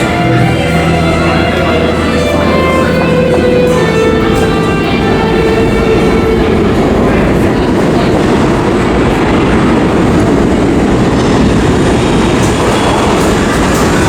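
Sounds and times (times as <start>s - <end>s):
busker's music: 0.0s - 14.0s
subway train wheels rumbling: 0.0s - 14.0s.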